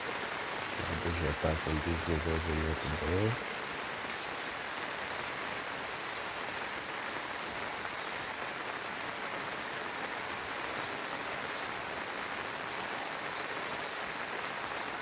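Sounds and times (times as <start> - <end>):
rain on vegetation: 0.0 - 15.0.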